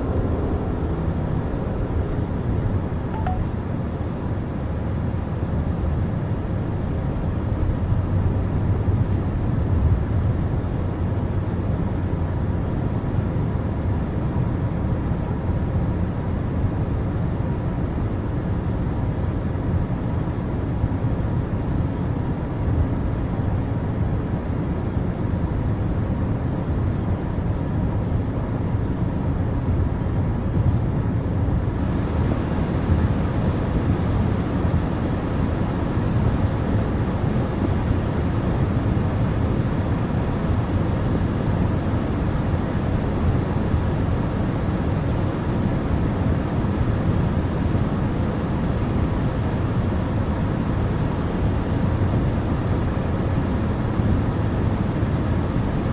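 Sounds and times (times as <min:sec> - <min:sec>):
car engine and tyre noise: 0:00.0 - 0:55.9.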